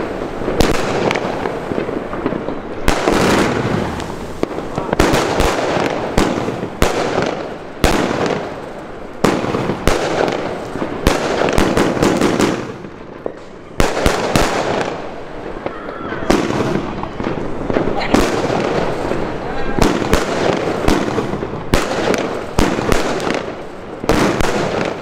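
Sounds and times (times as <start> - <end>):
firework bangs: 0.0 - 25.0
firework crackling: 0.0 - 25.0.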